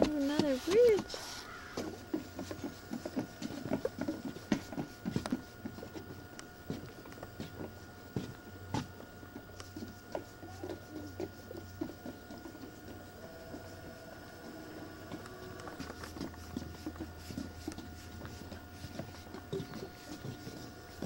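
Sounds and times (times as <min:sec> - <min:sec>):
footsteps on wooden boardwalk: 0:00.0 - 0:21.0.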